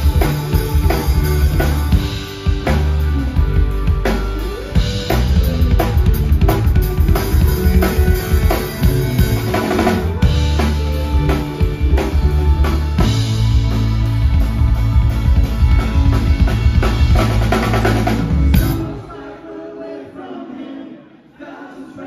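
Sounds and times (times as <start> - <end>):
bass notes: 0.0 - 19.0
drum kit beat: 0.0 - 19.1
guitar: 0.0 - 19.4
keyboards: 0.0 - 19.7.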